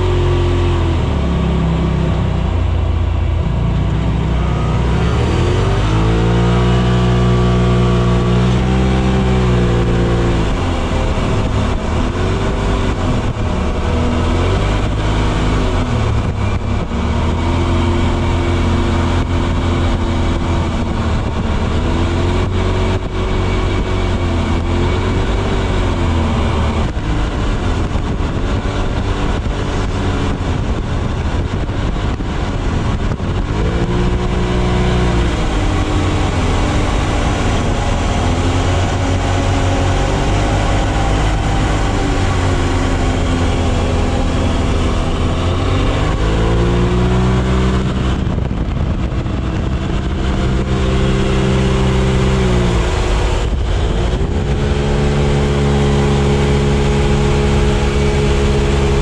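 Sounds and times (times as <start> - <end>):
off-road buggy engine revving: 0.0 - 59.0.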